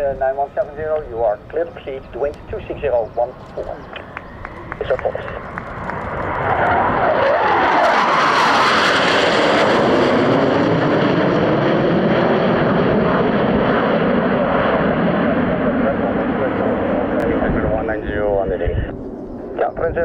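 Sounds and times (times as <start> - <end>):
jet fighters roaring past: 0.0 - 20.0.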